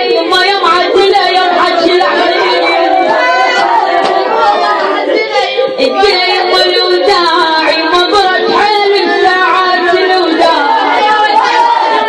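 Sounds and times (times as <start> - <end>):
woman chanting a lament: 0.0 - 12.0.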